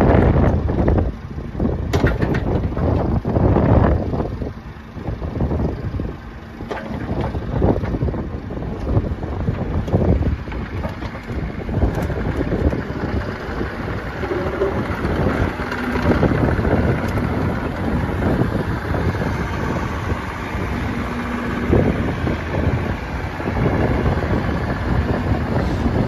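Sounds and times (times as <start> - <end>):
excavator diesel engine running: 0.0 - 26.0
wind buffeting microphone: 0.0 - 26.0.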